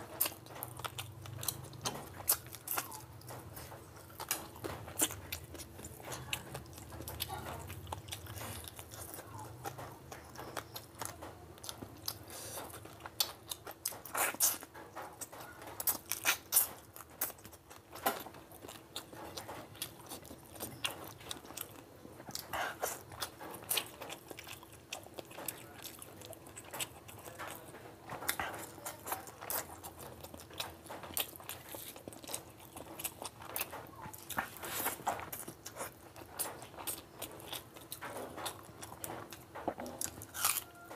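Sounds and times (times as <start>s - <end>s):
chewing food: 0.0s - 40.9s.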